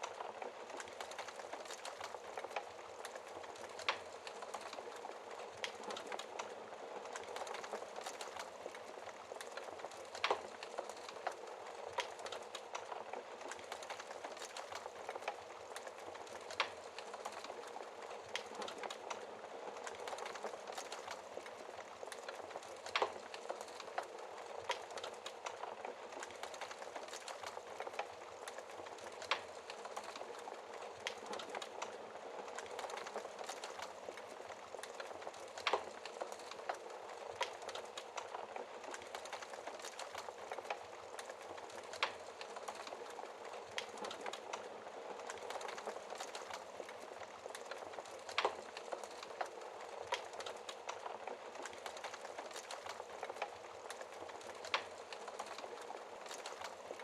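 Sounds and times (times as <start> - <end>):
logs crackling in a fireplace: 0.0 - 57.0.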